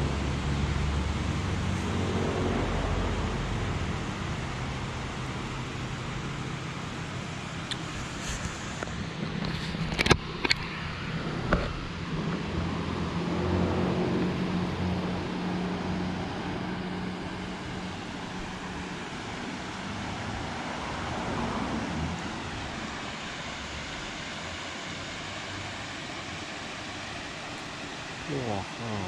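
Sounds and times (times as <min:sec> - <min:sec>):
road traffic hum: 0:00.0 - 0:29.0.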